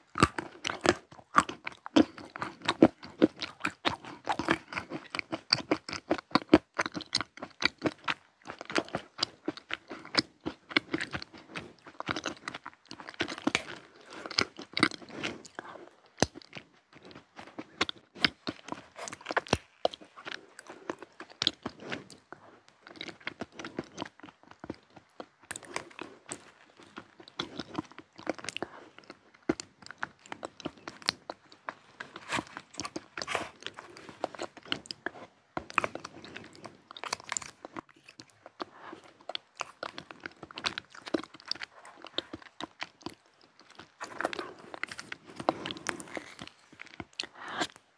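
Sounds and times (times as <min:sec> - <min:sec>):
person chewing crunchy snacks: 0:00.0 - 0:47.9.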